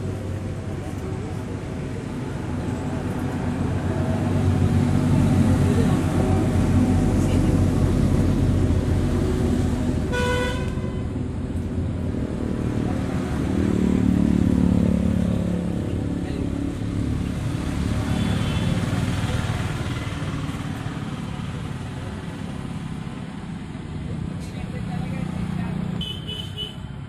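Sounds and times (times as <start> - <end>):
road traffic engines: 0.0 - 27.0.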